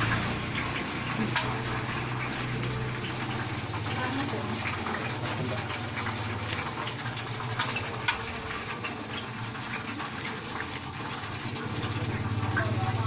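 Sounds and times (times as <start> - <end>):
sharp ticks and crackles: 0.0 - 13.0.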